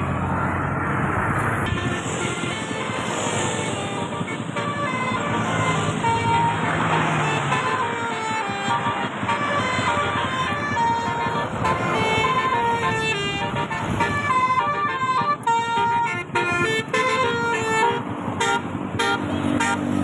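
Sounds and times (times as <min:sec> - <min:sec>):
multi-tone musical bus horn: 0:01.6 - 0:20.0.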